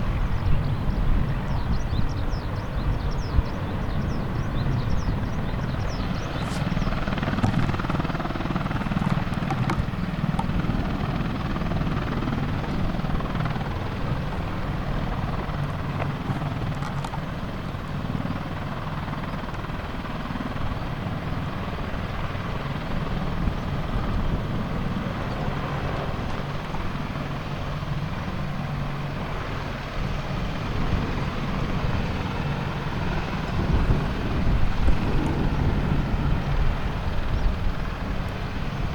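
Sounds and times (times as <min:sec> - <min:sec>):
helicopter rotors and engines: 0:00.0 - 0:38.9.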